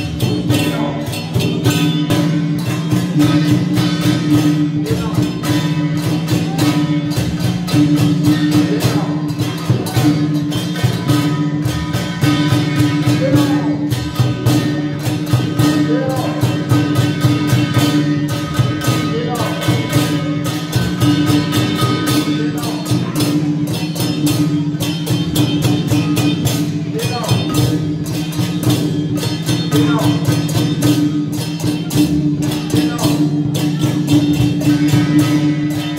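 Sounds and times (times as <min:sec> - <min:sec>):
fast dense percussion: 0:00.0 - 0:35.9.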